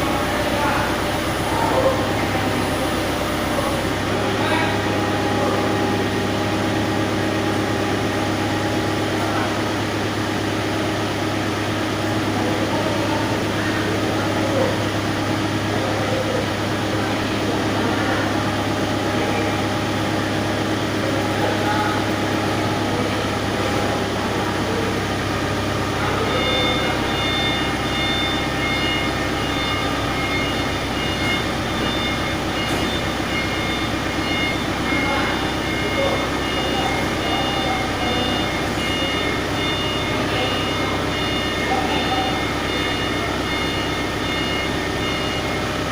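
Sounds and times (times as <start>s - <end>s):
reversing alarm beeping: 0.0s - 45.9s
vehicle engine running: 0.0s - 45.9s.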